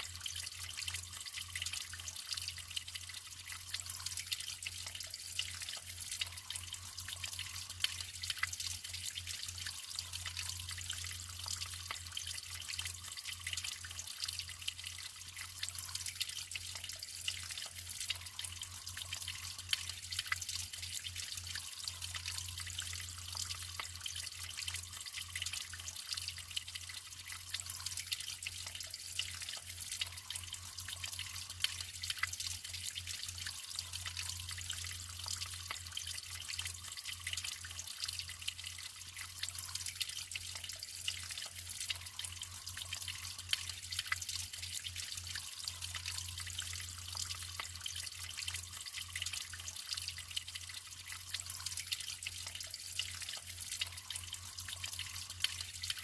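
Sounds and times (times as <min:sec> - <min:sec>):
running water trickling: 0:00.0 - 0:56.0.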